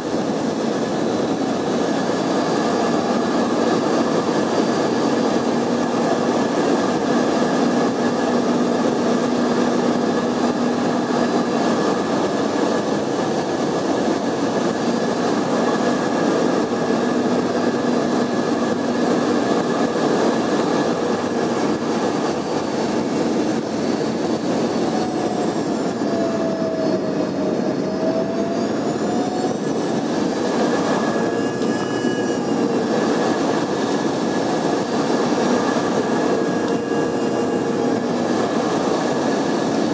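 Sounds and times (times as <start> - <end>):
airflow rushing: 0.0 - 39.9
jet engines whining: 0.0 - 39.9.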